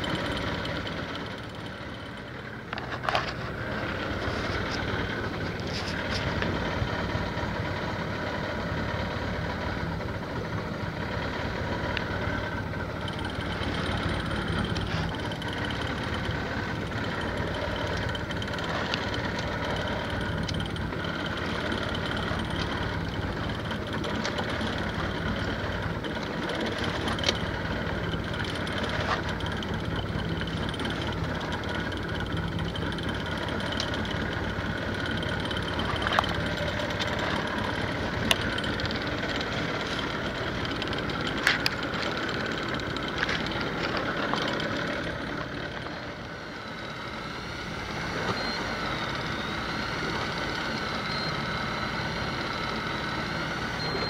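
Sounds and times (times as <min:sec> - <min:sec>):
boat engine idling: 0:00.0 - 0:54.0.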